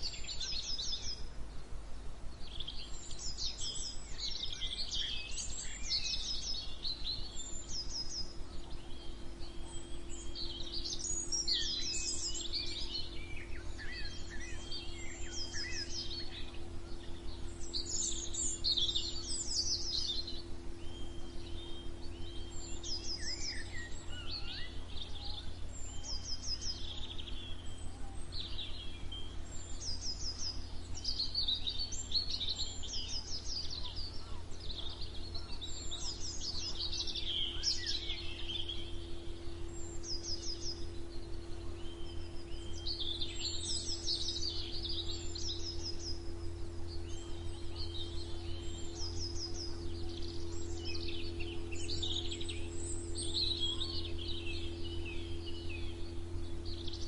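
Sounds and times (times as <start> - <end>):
songbirds singing: 0.0 - 57.0
steady low hum: 0.0 - 57.0.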